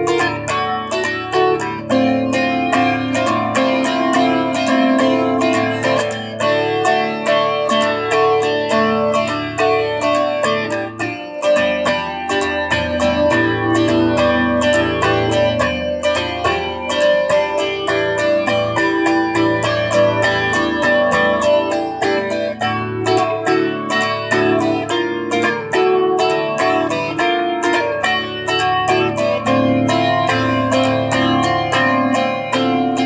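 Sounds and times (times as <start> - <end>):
solo guitar melody: 0.0 - 33.0.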